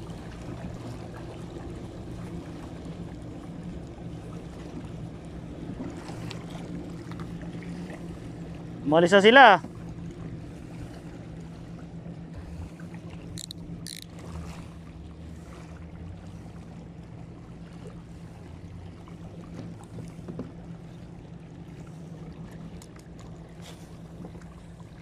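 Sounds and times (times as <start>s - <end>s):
low motor hum: 0.0s - 25.0s.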